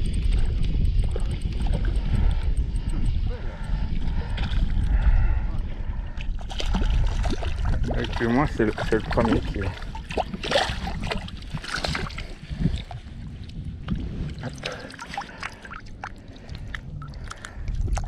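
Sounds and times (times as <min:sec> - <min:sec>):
steady low rumble: 0:00.0 - 0:18.0
water lapping and gurgling: 0:00.0 - 0:18.0.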